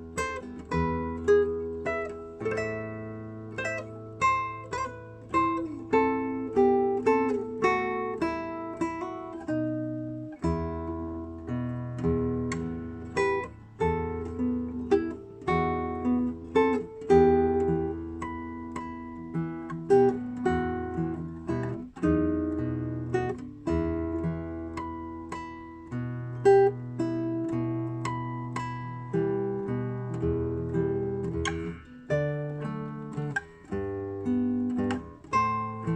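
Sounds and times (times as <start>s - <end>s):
plucked string melody: 0.0s - 35.9s.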